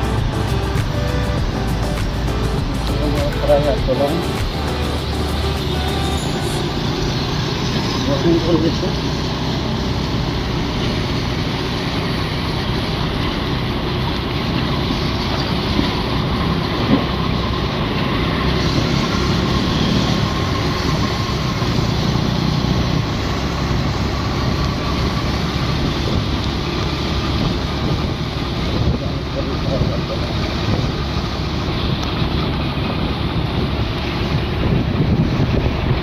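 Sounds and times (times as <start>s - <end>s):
motorcycle engine running: 0.0s - 36.0s
road noise: 0.0s - 36.0s.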